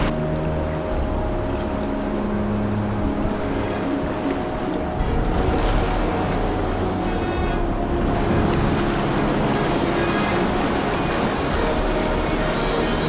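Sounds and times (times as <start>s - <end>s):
whitewater rushing and splashing: 0.0s - 13.0s.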